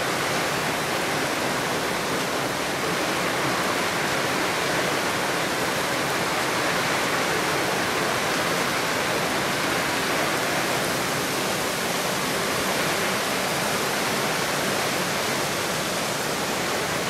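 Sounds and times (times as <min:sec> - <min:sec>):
heavy rain on asphalt: 0:00.0 - 0:17.0.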